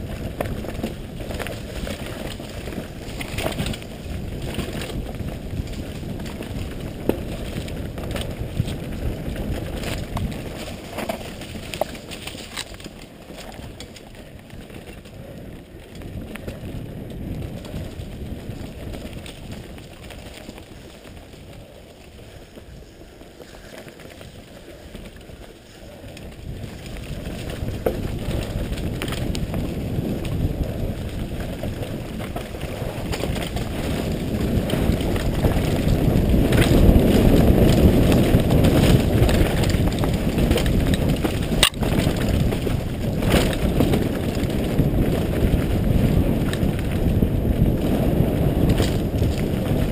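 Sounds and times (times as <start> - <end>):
bike rattles and clicks: 0.0 - 49.9
tyres rumbling over dirt: 0.0 - 49.9
wind noise on microphone: 0.0 - 49.9.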